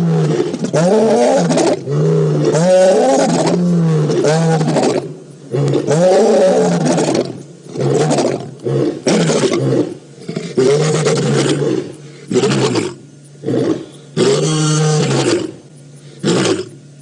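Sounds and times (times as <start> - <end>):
lion roaring and grunting: 0.0 - 15.6.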